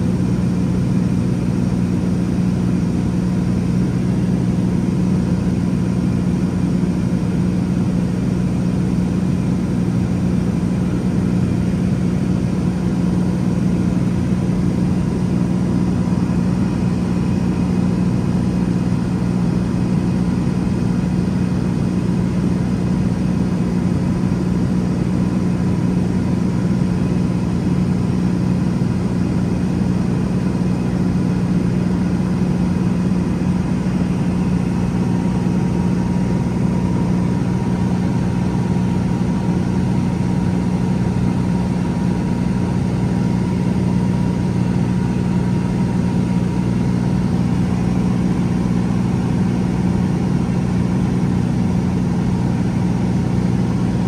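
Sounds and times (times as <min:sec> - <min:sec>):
aircraft engine drone in cabin: 0:00.0 - 0:54.0.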